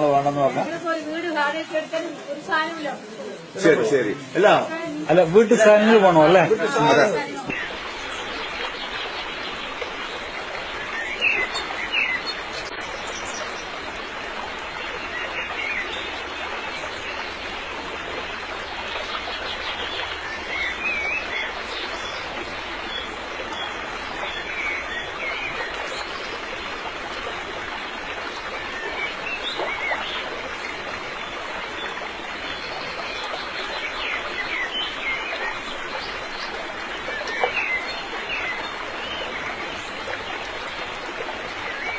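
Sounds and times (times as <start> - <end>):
flowing water: 0.0 - 41.9.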